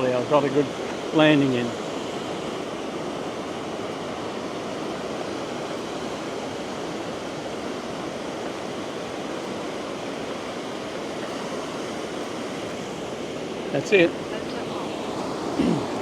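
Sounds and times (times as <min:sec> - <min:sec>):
ocean surf washing up beach: 0:00.0 - 0:16.0.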